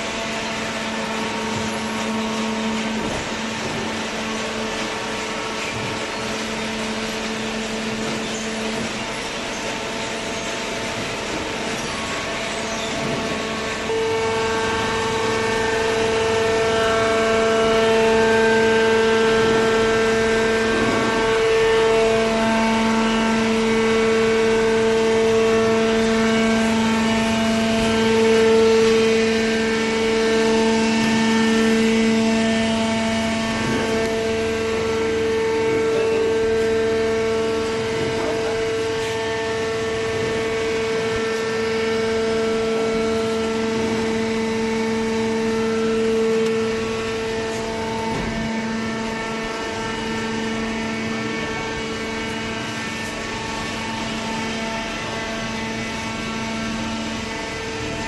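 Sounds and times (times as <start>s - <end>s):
baler motor and pump whining hum: 0.0s - 58.0s.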